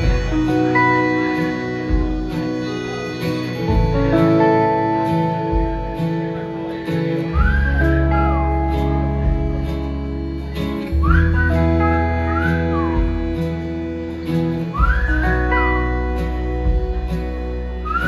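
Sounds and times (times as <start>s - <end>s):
bass notes: 0.0s - 18.0s
drums: 0.0s - 18.0s
electric guitar: 0.0s - 18.0s
strummed acoustic guitar: 0.0s - 18.0s.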